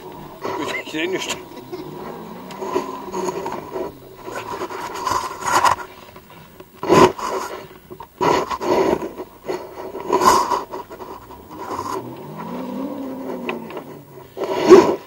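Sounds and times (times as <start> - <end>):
off-road engine revving: 0.0 - 15.0
wheels spinning and scraping: 0.0 - 15.0.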